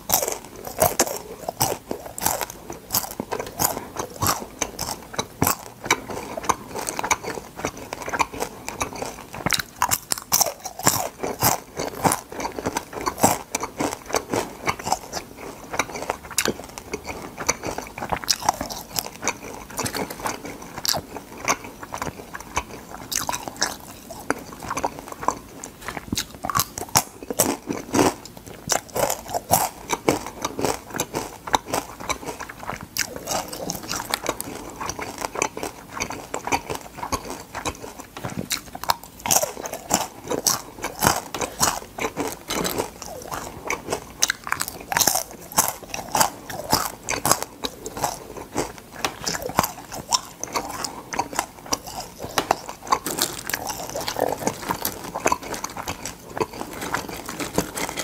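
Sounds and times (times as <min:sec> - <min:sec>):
crunchy food being chewed: 0:00.0 - 0:58.0.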